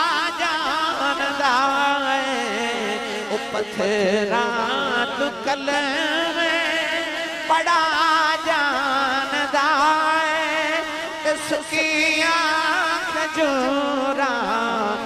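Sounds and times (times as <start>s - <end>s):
man singing devotional chant: 0.0s - 15.0s.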